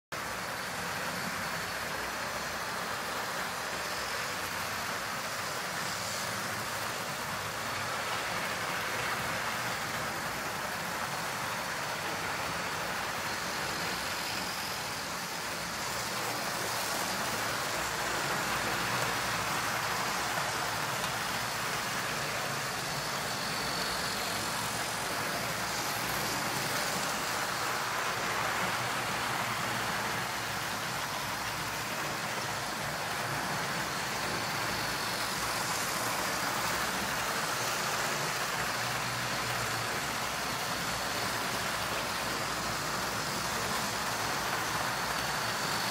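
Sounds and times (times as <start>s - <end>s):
model train motors whirring: 0.2s - 45.9s.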